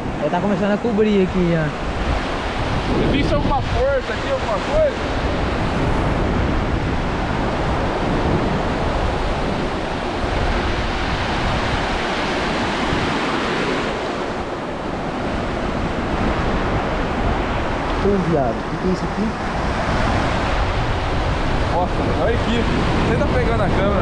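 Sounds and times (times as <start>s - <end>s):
sea surf rushing on sand: 0.0s - 24.0s.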